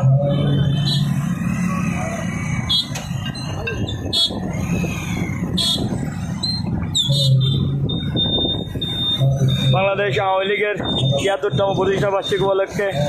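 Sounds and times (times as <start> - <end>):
motorcycle engines humming: 0.0 - 13.0.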